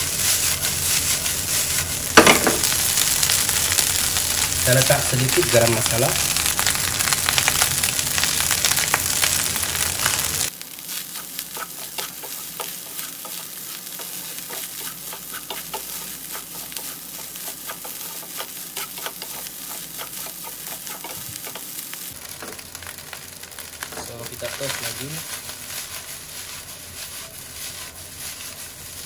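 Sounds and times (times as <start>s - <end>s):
rice sizzling in a frying pan: 0.0s - 29.0s.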